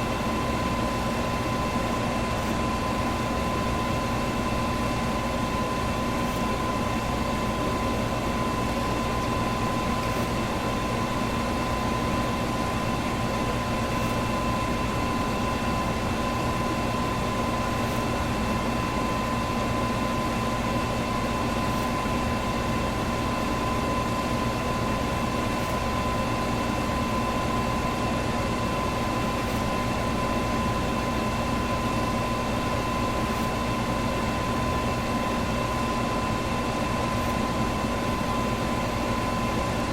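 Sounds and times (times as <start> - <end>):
motor hum and whine: 0.0 - 39.9.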